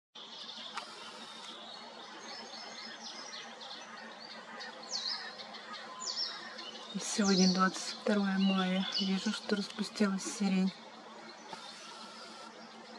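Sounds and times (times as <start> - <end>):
songbirds chirping and singing: 0.2 - 12.9
steady outdoor hiss: 0.2 - 12.9.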